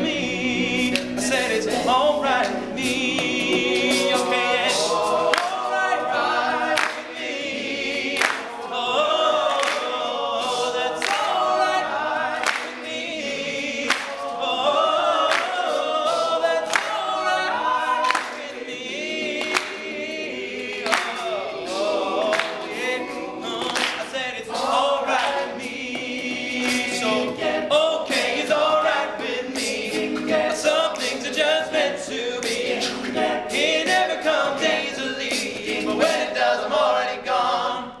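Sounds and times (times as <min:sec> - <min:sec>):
male a cappella group singing: 0:00.0 - 0:38.0.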